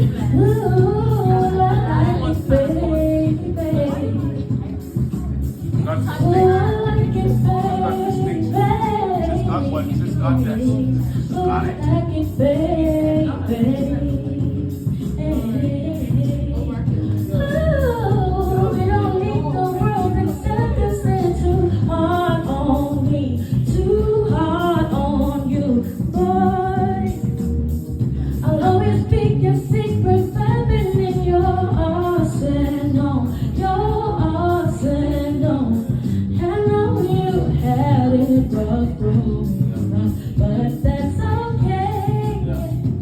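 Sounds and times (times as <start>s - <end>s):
bass-heavy music: 0.0s - 43.0s.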